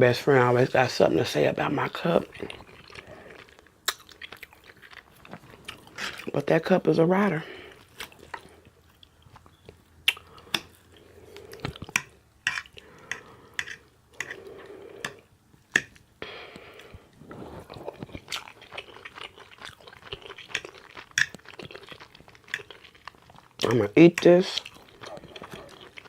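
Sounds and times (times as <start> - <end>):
person chewing with lip smacks: 2.2 - 6.3, 7.7 - 23.8, 24.5 - 26.0.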